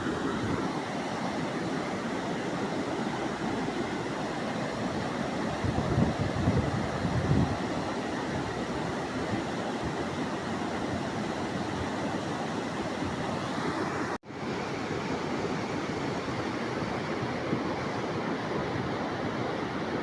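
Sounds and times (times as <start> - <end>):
fast-flowing water rushing: 0.0 - 20.0.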